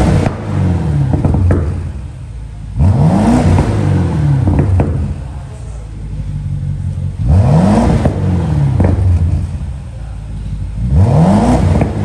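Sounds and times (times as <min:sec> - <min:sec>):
car engine revving: 0:00.0 - 0:12.0
exhaust cracks: 0:00.0 - 0:12.0.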